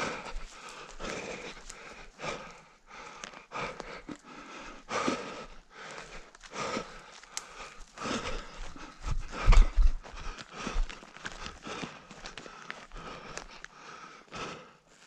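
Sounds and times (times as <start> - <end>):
panting breath: 0.0 - 14.8
running footsteps: 0.0 - 15.0.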